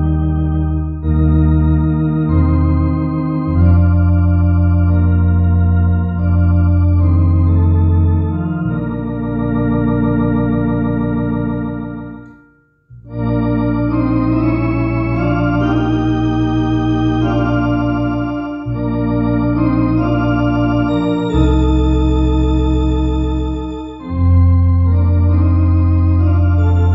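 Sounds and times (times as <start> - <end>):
electronic organ playing a hymn: 0.0 - 26.9.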